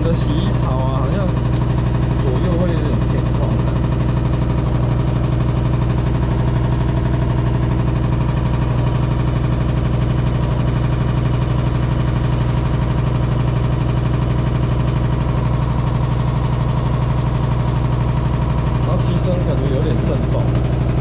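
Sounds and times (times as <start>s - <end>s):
fast rattling vibration: 0.0s - 21.0s
washing machine spinning: 0.0s - 21.0s.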